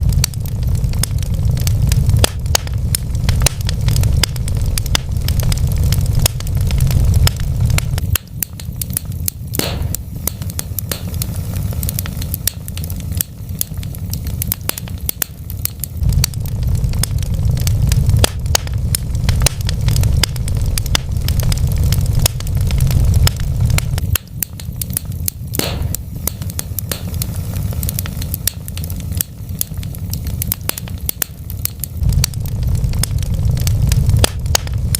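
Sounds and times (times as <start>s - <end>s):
logs crackling and snapping: 0.0s - 34.9s
low rumble of flames: 0.0s - 34.9s
sharp pop from fire: 0.0s - 34.9s.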